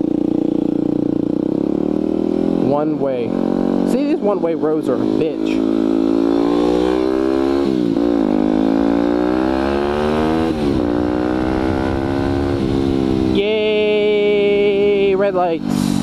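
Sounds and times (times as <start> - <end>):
dirt bike engine accelerating: 0.0 - 16.0.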